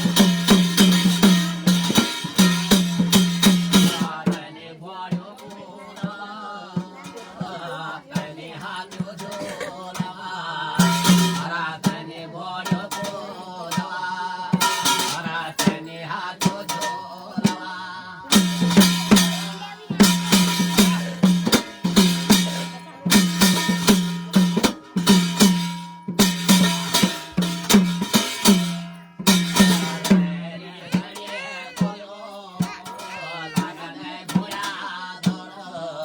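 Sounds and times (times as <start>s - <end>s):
rhythmic drumming: 0.0s - 36.0s.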